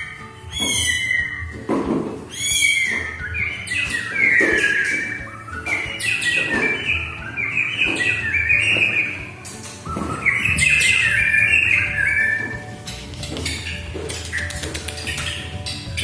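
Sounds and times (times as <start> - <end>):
bird singing high notes: 0.0 - 1.7, 2.3 - 16.0.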